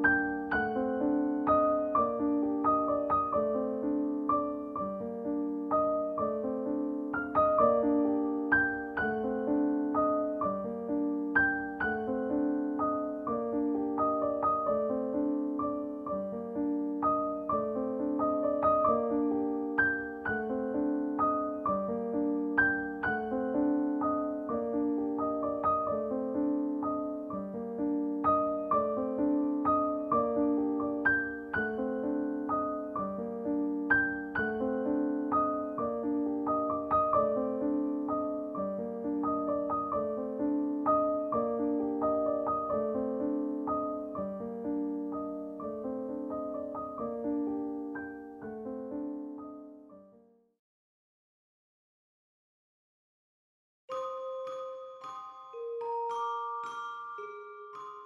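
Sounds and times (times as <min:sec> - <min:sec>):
gentle solo piano music: 0:00.0 - 0:50.5.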